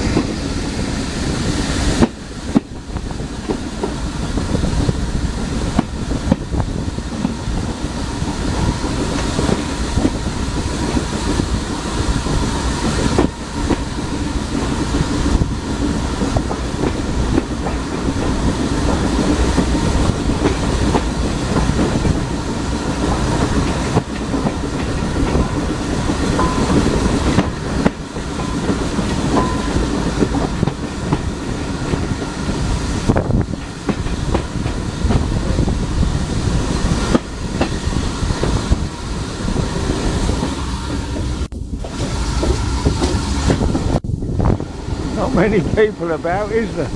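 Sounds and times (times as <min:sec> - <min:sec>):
train wheels clickety-clack: 0:00.0 - 0:44.0.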